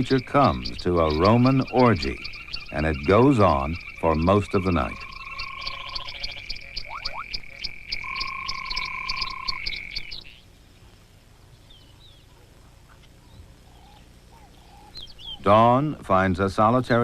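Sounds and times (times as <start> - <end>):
frog chorus trilling: 0.0 - 10.5, 11.6 - 16.3
soft chirps: 0.0 - 15.6.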